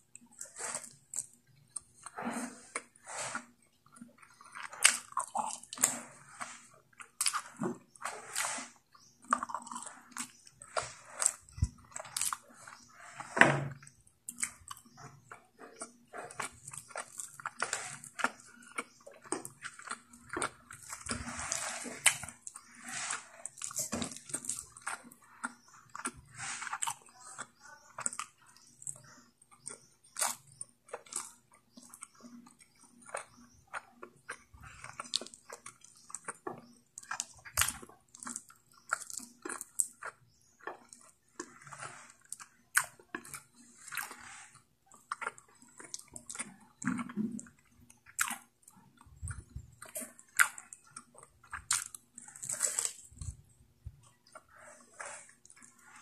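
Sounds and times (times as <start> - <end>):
wet chewing and lip smacking: 0.0 - 56.0.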